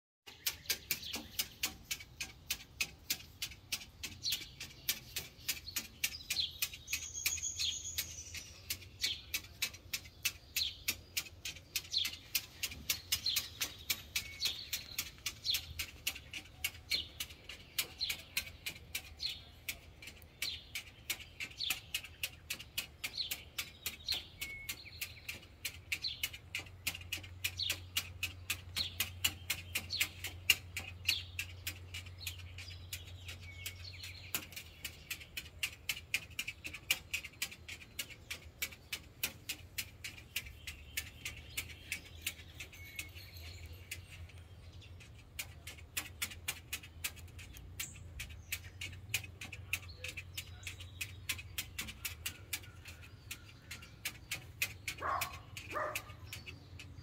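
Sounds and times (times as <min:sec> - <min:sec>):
bird chirping: 0:00.2 - 0:57.0
faint fast ticking: 0:00.3 - 0:57.0.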